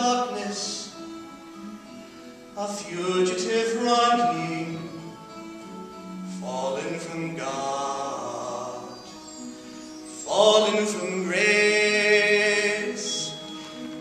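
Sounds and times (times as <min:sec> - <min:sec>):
man singing into microphone: 0:00.0 - 0:01.0, 0:02.6 - 0:09.3, 0:10.1 - 0:13.9.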